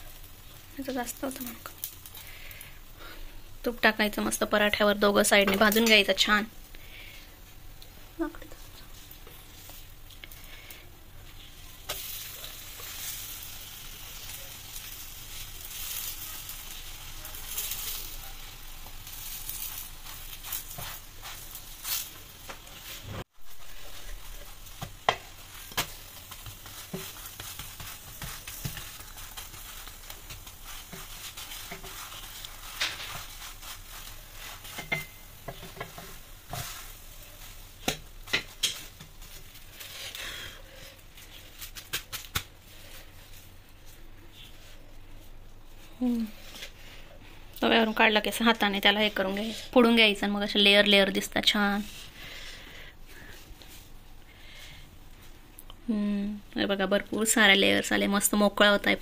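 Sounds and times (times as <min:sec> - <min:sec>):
flatbread sizzling in a pan: 0:00.0 - 0:55.5.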